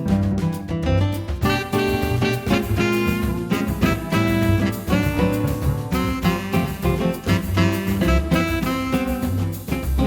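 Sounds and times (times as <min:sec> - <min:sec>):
upbeat swing music with brass: 0:00.0 - 0:10.0.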